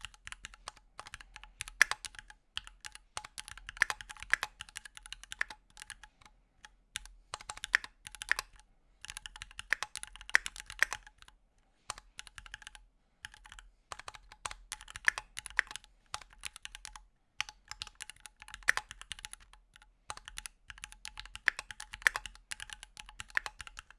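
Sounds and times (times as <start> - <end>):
mechanical keyboard typing: 0.0 - 6.1, 7.0 - 11.3, 11.9 - 23.9.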